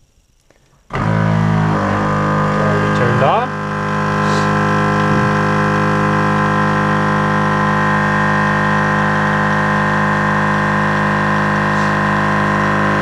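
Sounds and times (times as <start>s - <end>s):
air compressor droning: 0.7s - 13.0s.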